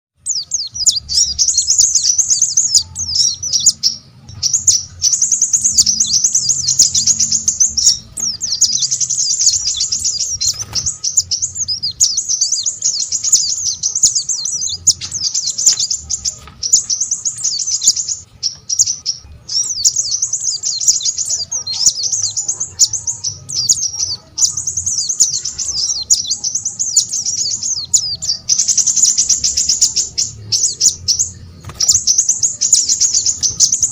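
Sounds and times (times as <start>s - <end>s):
small songbirds twittering: 0.2s - 33.9s.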